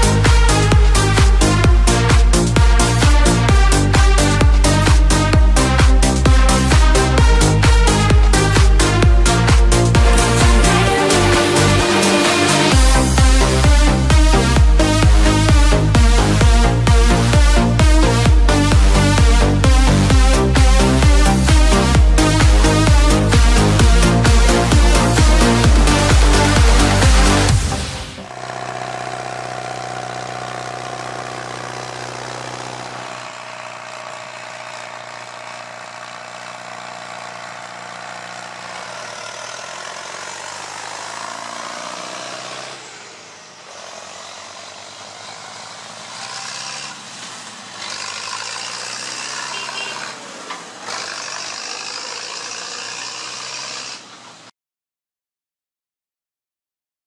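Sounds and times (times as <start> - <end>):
tractor diesel engine running: 0.0 - 54.5.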